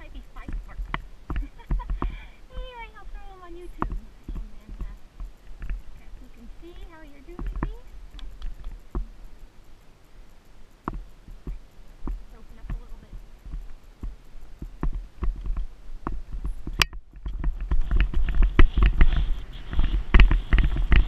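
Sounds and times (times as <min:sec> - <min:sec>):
horse hoofbeats on dirt: 0:00.0 - 0:09.1, 0:10.9 - 0:21.0
wind rumble on microphone: 0:00.0 - 0:21.0.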